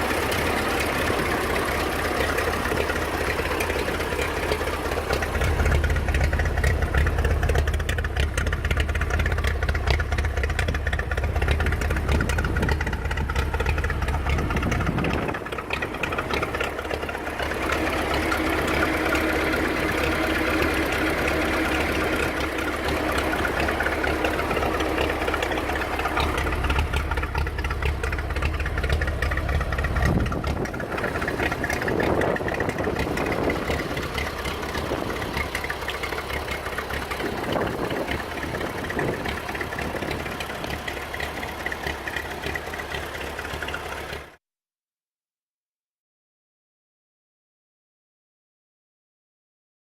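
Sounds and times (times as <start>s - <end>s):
tractor engine running: 0.0s - 44.4s.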